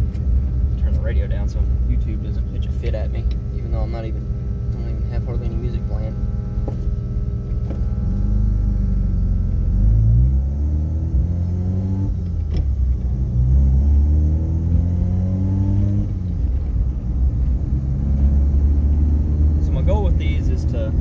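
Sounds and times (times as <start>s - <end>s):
rotary engine accelerating: 2.1s - 21.0s.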